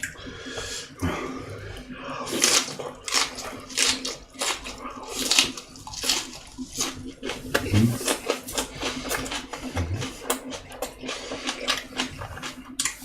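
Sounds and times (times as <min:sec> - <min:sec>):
person chewing and lip-smacking: 0:02.3 - 0:13.0.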